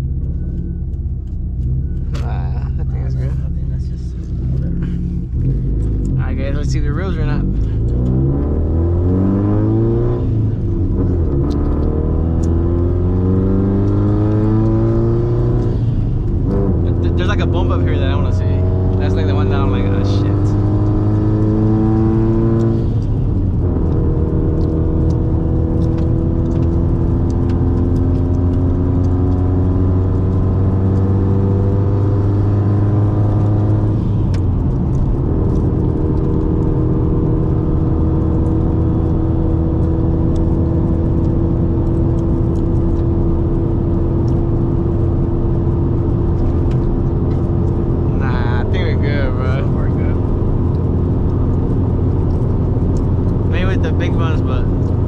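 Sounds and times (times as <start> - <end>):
car engine accelerating: 0.0 - 55.0
road rumble: 0.0 - 55.0.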